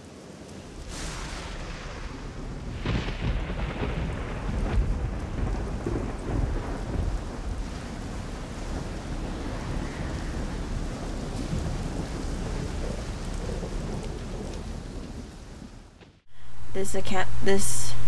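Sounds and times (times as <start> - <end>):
rain: 0.0 - 18.0
rolling thunder: 0.4 - 16.6.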